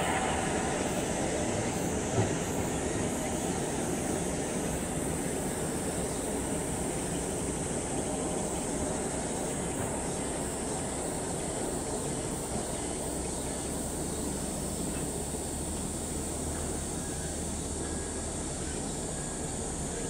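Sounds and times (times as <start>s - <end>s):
distant jet engines idling: 0.0s - 20.0s.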